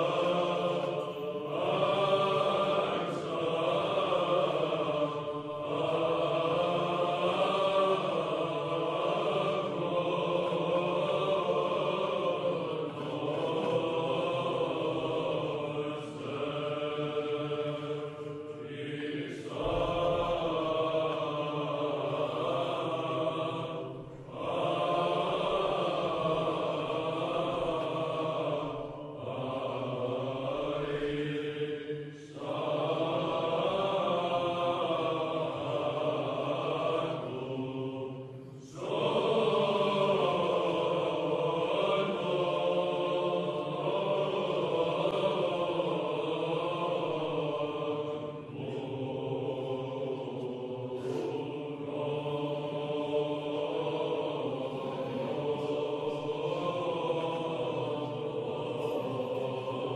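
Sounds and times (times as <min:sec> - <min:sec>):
voices chanting: 0:00.0 - 0:59.9.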